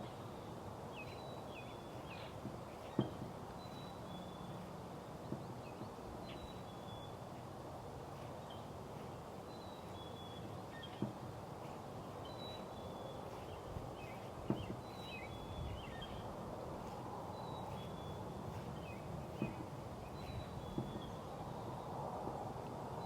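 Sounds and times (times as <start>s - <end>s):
birds chirping: 0.0s - 22.1s
low rushing background noise: 0.0s - 23.0s.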